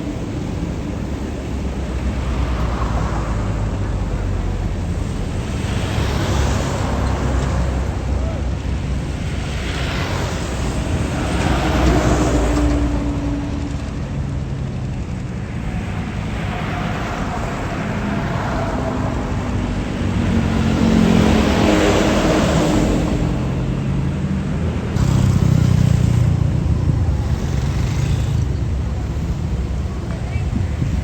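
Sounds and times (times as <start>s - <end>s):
diesel bus engine passing: 0.0s - 31.0s.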